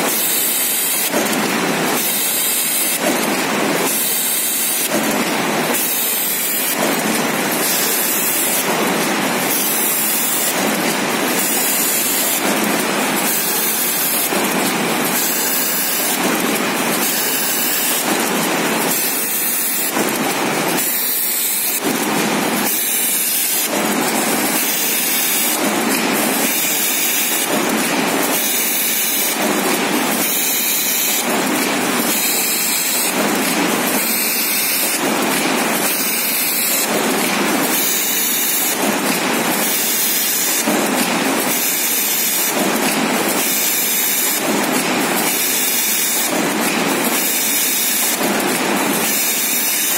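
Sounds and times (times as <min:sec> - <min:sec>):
bag cutting and sewing machine clatter: 0:00.0 - 0:49.9.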